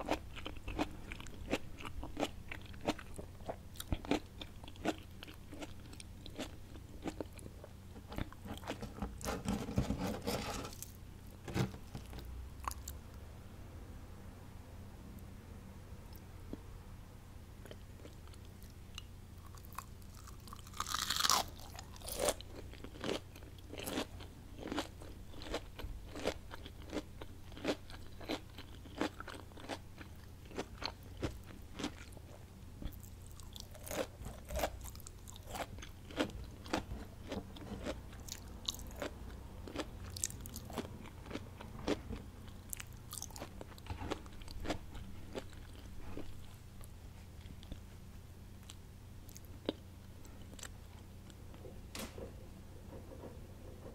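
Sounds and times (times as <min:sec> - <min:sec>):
crunchy chewing of fried food: 0:00.0 - 0:13.0, 0:17.6 - 0:51.6.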